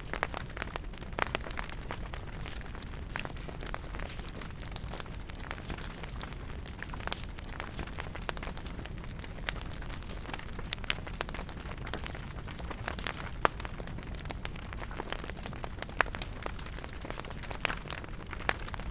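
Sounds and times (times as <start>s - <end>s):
campfire crackling and popping: 0.0s - 18.9s
fire low rumble: 0.0s - 18.9s.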